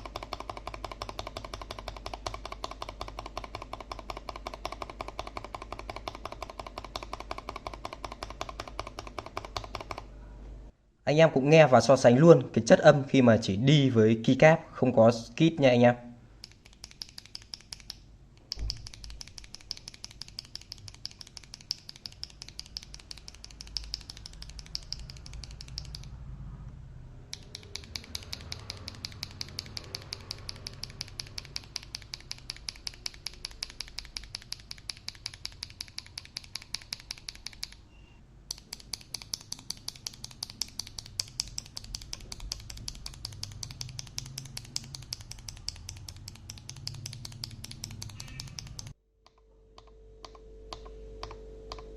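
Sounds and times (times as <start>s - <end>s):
keyboard switches clicking: 0.0s - 10.1s, 16.4s - 26.1s, 27.3s - 37.8s, 38.5s - 51.9s.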